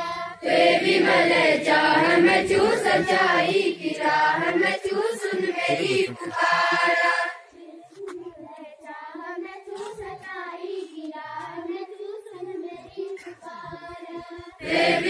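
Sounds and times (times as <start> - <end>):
children singing a prayer: 0.0 - 15.0.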